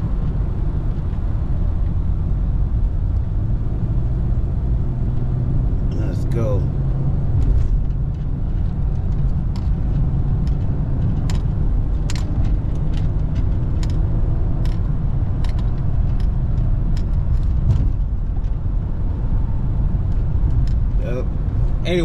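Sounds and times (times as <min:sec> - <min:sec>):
road and wind noise: 0:00.0 - 0:22.0.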